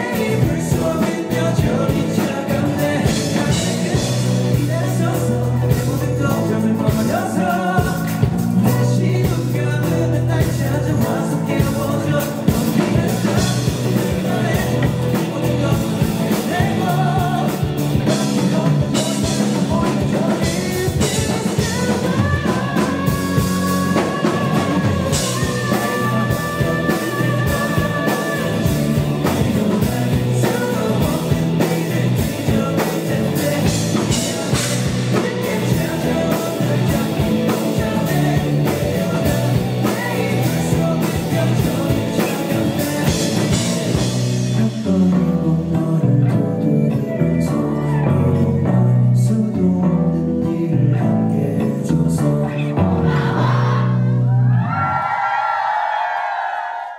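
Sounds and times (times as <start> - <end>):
drum kit: 0.0 - 54.7
electric guitar: 0.0 - 55.1
bass guitar: 0.0 - 55.6
lead vocal singing: 0.0 - 56.9.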